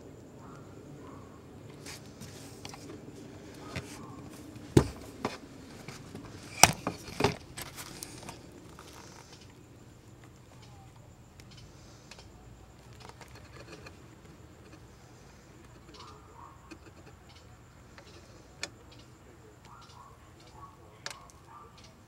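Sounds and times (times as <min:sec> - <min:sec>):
faint steady hiss: 0:00.0 - 0:22.0
handling knocks and clicks: 0:01.6 - 0:14.9, 0:15.6 - 0:22.0.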